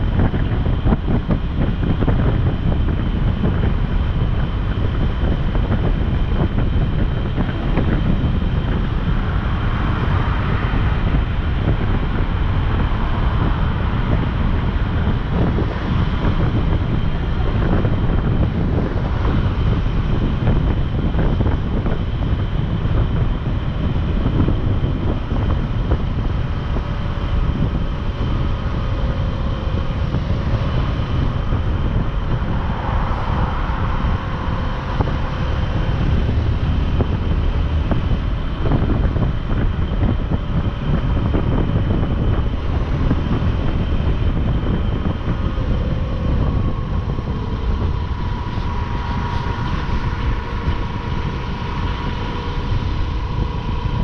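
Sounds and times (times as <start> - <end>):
motorcycle engine whine: 0.0 - 54.0
wind rushing over microphone: 0.0 - 54.0.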